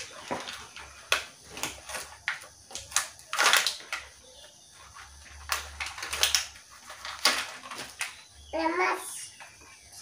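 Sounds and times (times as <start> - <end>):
plastic toys clicking: 0.0 - 8.2.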